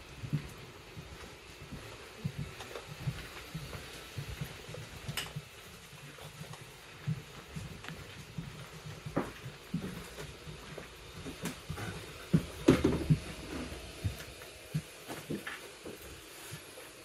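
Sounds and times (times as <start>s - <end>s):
soft footsteps: 0.0s - 17.0s.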